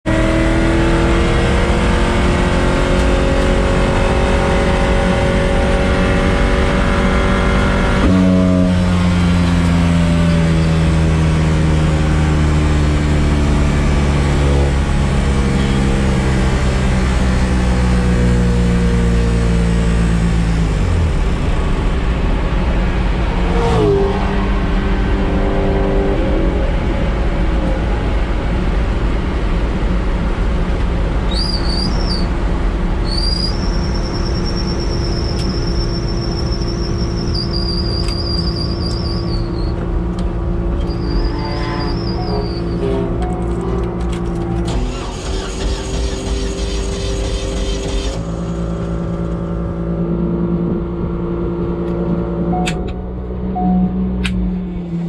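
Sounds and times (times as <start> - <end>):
race car engine running hard: 0.0 - 31.3, 35.0 - 55.0.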